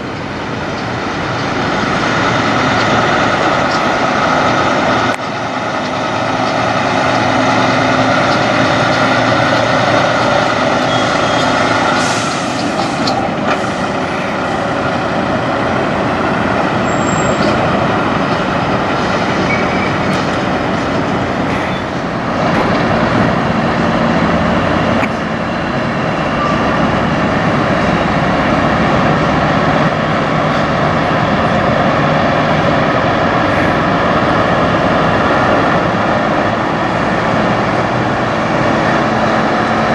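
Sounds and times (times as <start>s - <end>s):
truck diesel engines running: 0.0s - 39.9s.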